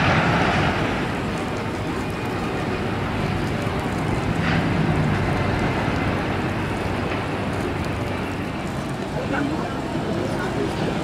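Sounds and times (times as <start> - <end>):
outdoor rumble: 0.0 - 11.0
wind: 0.0 - 11.0.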